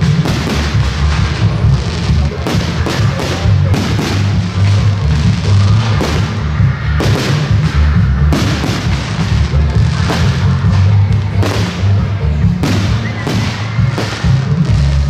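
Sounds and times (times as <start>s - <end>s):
firework shells bursting: 0.0s - 14.7s
deep rolling rumble: 0.0s - 15.0s
loud music playing: 0.0s - 15.0s.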